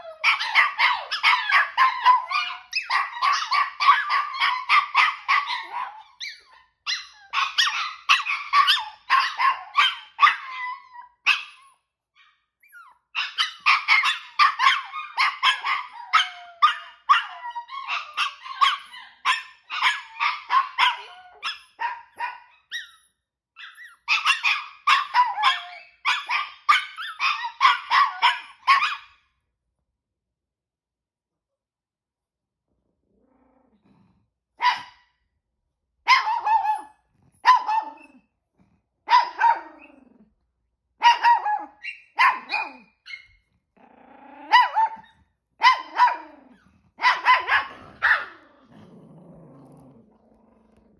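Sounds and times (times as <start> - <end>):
small dogs yapping: 0.0 - 29.2, 34.6 - 35.0, 36.1 - 38.3, 39.1 - 40.2, 41.0 - 50.1.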